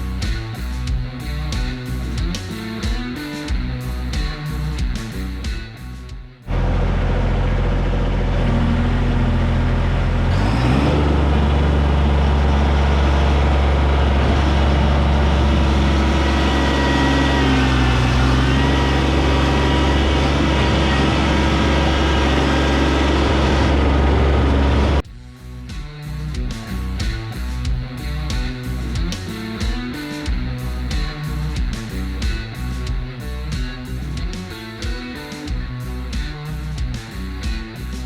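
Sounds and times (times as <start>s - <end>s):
tractor diesel engine running: 6.4s - 38.0s.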